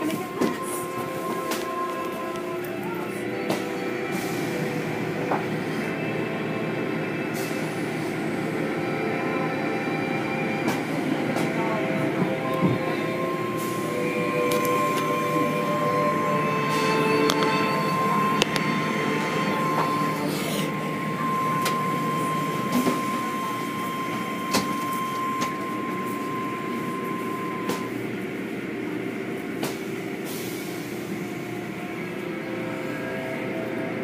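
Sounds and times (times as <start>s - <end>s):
thin steady whine: 0.0s - 34.0s.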